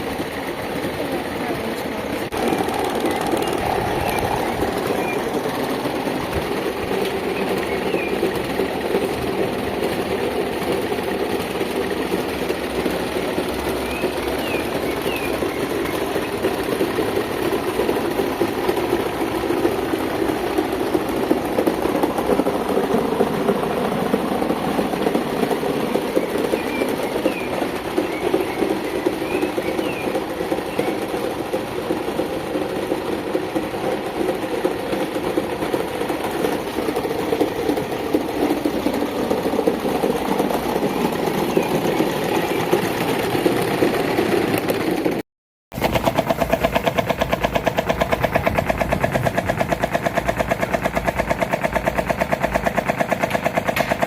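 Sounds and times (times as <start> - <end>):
electric fan whirring and rattling: 0.0 - 54.0.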